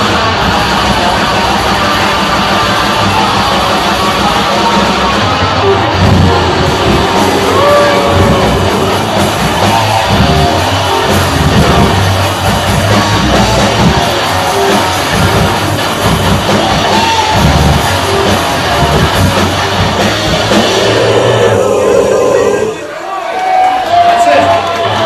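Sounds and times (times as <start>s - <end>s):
drum kit: 0.0s - 22.8s
bass guitar: 0.0s - 22.9s
distorted electric guitars: 0.0s - 22.9s.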